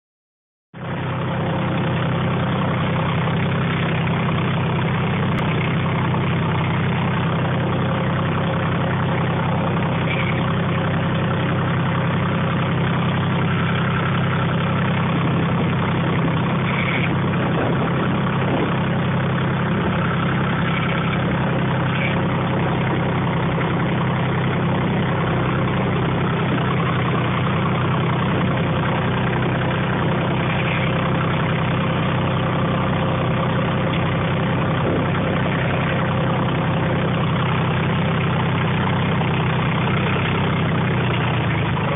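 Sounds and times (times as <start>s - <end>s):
tractor engine idling: 0.8s - 41.9s.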